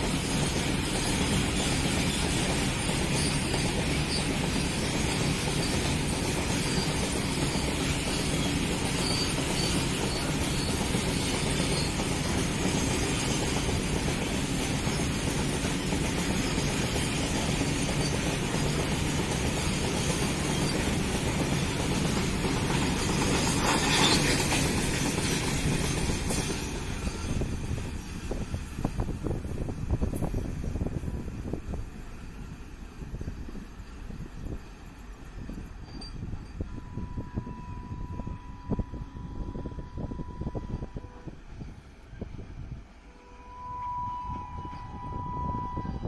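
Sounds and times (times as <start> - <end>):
steel wheels rolling on rails: 0.0 - 41.0.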